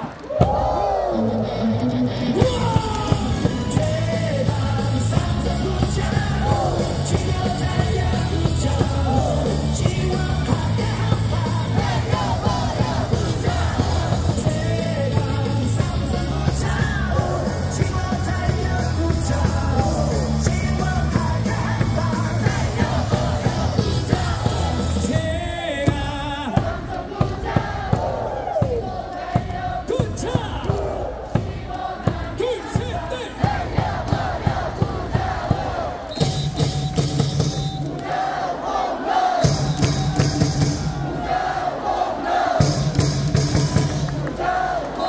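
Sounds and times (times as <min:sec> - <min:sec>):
cheer song over loudspeakers: 0:00.0 - 0:45.0
crowd singing and shouting: 0:00.0 - 0:45.0.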